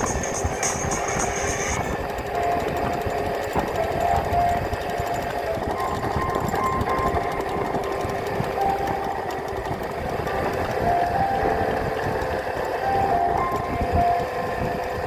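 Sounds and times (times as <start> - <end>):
melody from small speaker: 0.0 - 15.0
wind rumble on microphone: 0.0 - 15.0.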